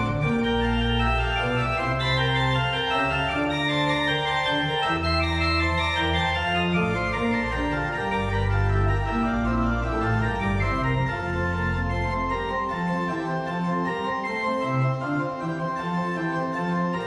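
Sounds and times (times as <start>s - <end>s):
church organ chords: 0.0s - 17.0s
organ pedal bass notes: 0.0s - 17.0s.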